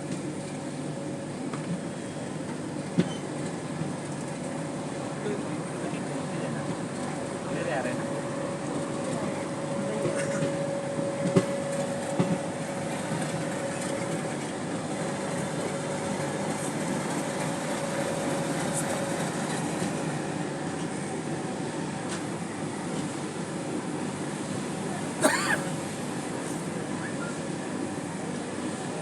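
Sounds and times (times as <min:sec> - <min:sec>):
train rumble and hiss: 0:00.0 - 0:29.0.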